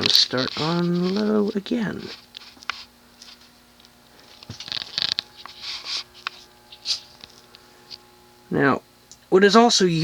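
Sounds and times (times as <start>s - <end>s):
scratchy rustles of handling: 0.0s - 8.1s
ceiling fan motor hum: 0.0s - 10.0s.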